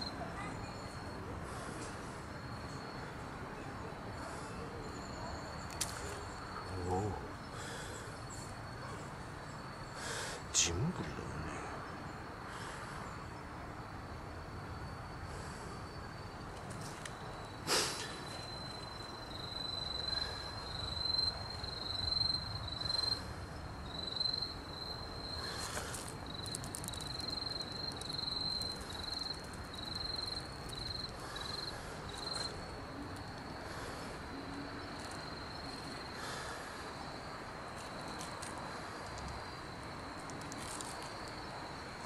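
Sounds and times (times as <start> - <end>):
cricket chirping: 0.0 - 42.0
faint outdoor hiss: 0.0 - 42.0.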